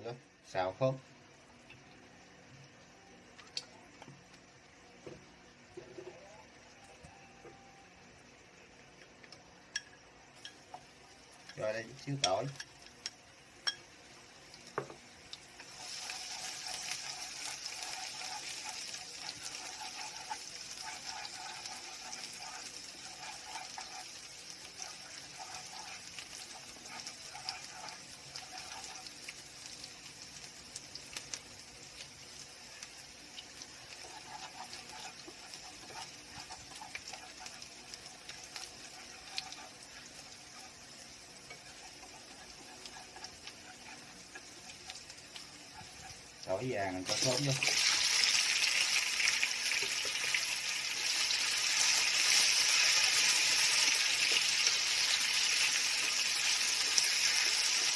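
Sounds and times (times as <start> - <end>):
garlic sizzling in hot oil: 8.1 - 57.9.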